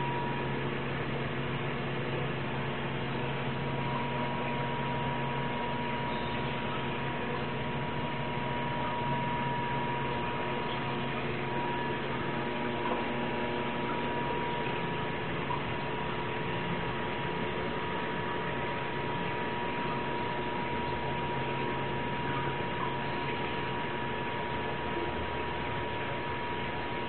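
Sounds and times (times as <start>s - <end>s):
steady hum and hiss: 0.0s - 27.0s.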